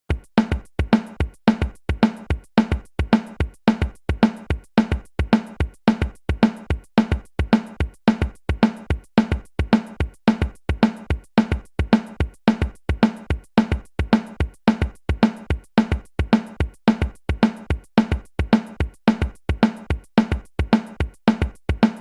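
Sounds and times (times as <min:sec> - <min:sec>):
kick drum thuds: 0:00.1 - 0:22.0.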